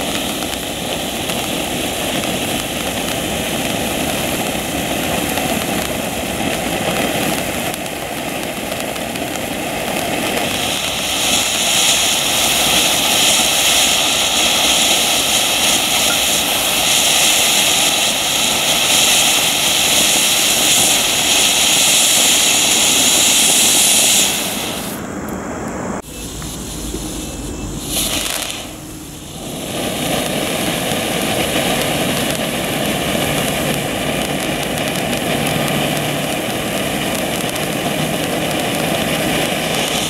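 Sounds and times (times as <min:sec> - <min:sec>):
firework fountain hissing: 0:00.0 - 0:40.0.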